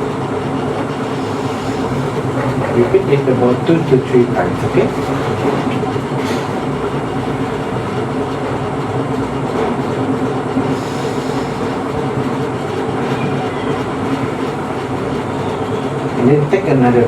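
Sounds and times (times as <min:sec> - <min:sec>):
mechanical hum and rumble: 0:00.0 - 0:17.0.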